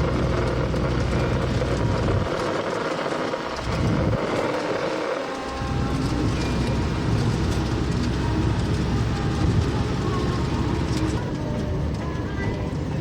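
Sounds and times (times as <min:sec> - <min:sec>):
car road noise inside cabin: 0:00.0 - 0:13.0.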